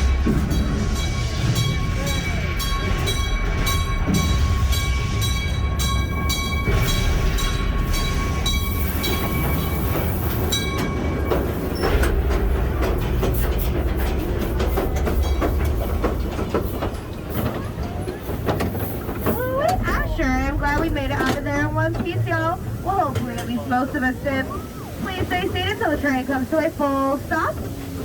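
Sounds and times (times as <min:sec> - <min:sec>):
ride cars rumbling on track: 0:00.0 - 0:28.0.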